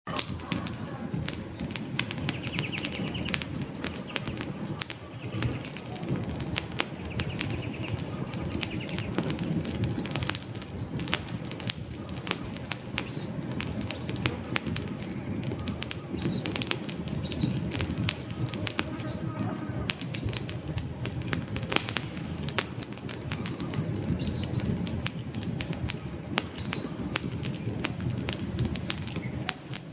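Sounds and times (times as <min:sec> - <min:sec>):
campfire flames rushing: 0:00.1 - 0:29.9
crackles and pops from logs: 0:00.1 - 0:29.9.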